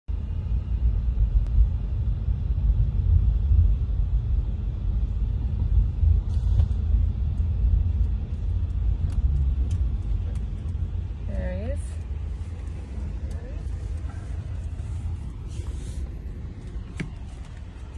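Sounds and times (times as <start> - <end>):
car cabin rumble: 0.1 - 17.9.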